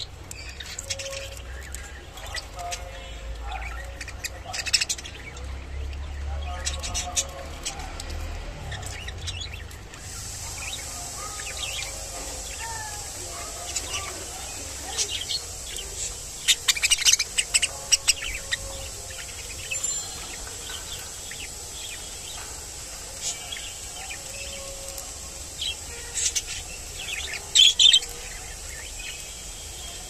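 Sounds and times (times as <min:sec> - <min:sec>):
budgerigars chirping: 0:00.0 - 0:08.0, 0:08.6 - 0:29.6.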